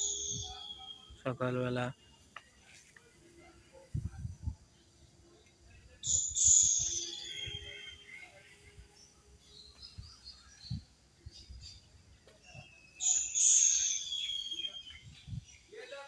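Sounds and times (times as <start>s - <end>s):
birds chirping: 0.0s - 2.6s, 4.7s - 16.0s.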